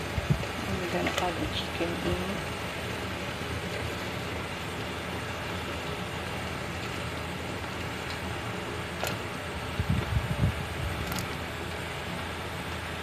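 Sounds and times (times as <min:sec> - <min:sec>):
pot of water boiling: 0:00.0 - 0:13.0.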